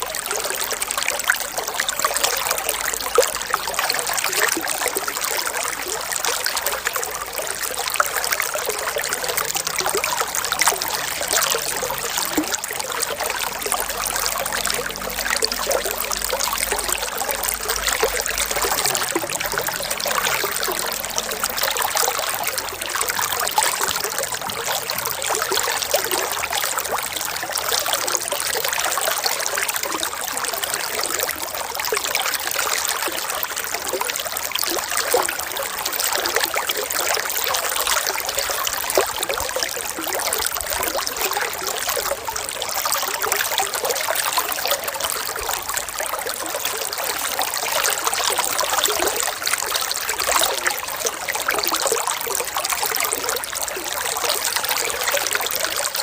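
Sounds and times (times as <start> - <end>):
water trickling in a stream: 0.0 - 56.0.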